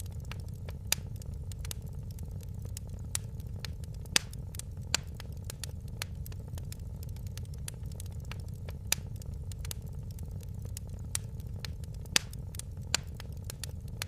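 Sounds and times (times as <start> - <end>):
fire crackling in a fireplace: 0.0 - 14.0
low rumble of burning: 0.0 - 14.0
sharp pops of burning wood: 0.0 - 14.0.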